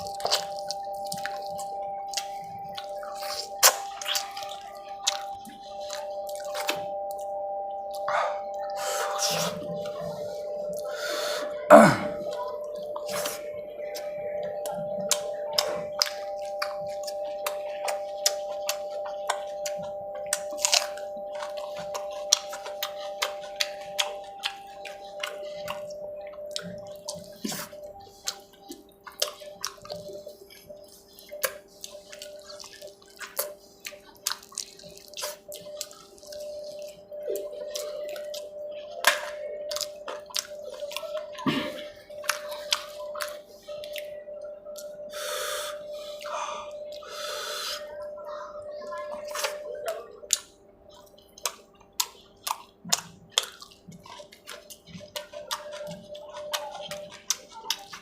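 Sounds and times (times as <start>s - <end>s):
wet chewing and lip smacks: 0.0s - 11.6s, 12.2s - 58.0s
background hum of held tones: 0.0s - 58.0s.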